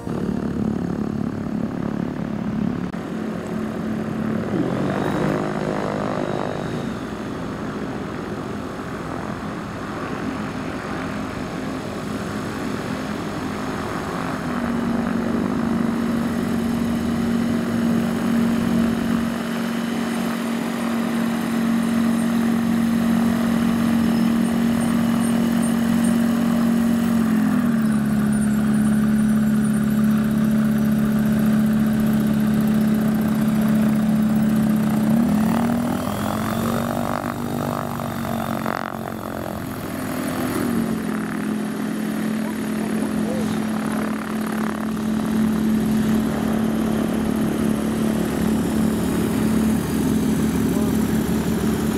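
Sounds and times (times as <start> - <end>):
propeller plane engine droning: 0.0 - 51.9.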